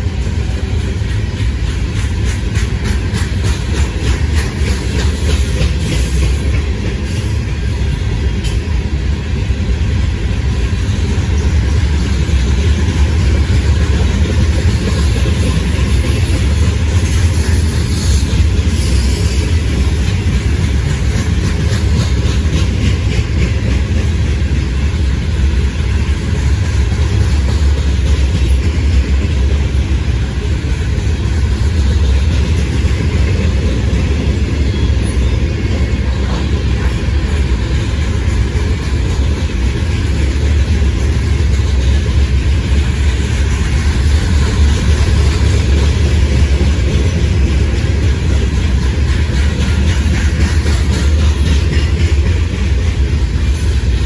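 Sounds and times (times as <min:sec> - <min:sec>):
train railcars rumbling: 0:00.0 - 0:54.0.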